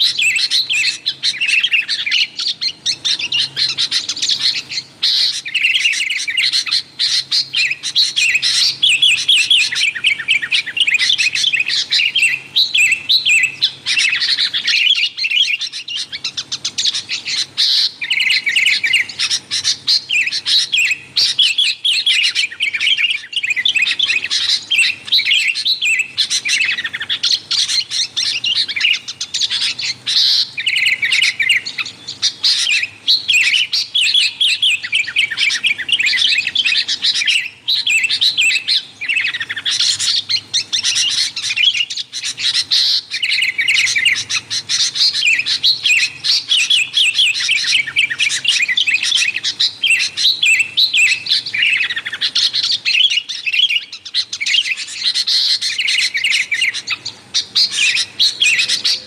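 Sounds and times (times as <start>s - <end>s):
bulbuls chirping: 0.0s - 59.0s.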